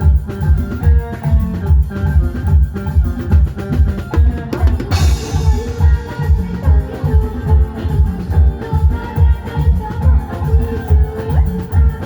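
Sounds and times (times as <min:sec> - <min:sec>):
music with heavy bass drum: 0:00.0 - 0:12.0.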